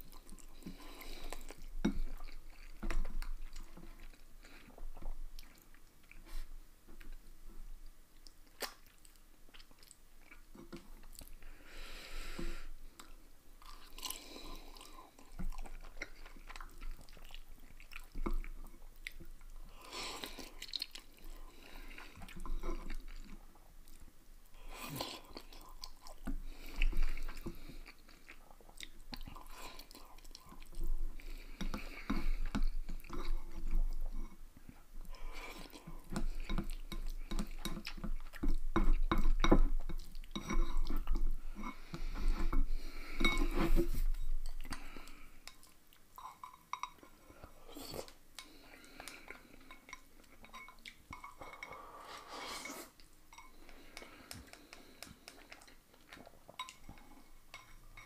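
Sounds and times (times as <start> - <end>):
chewing: 0.0 - 7.3, 8.2 - 11.4, 12.4 - 58.0.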